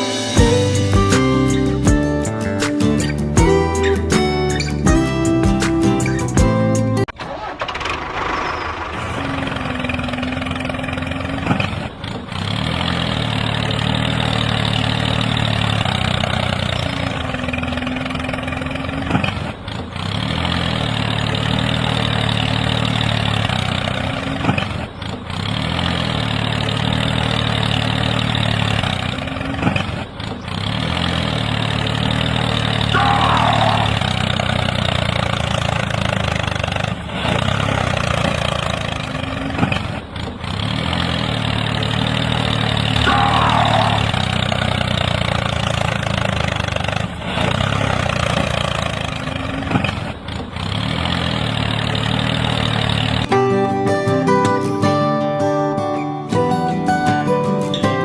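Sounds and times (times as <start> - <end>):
tractor engine idling: 0.0 - 55.2.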